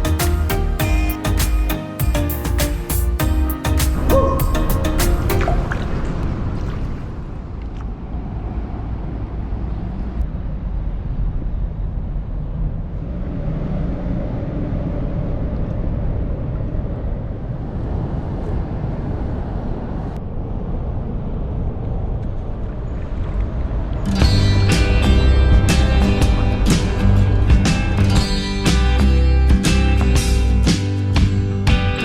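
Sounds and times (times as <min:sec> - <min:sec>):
low engine rumble: 0:03.2 - 0:32.0.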